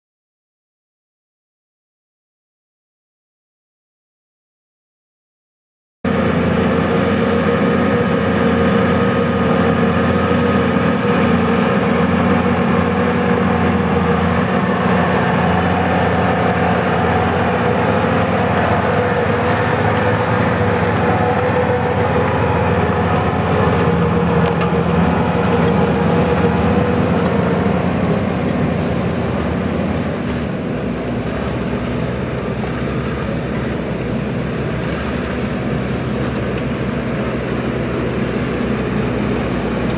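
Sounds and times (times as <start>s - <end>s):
tractor diesel engine running: 6.1s - 39.9s.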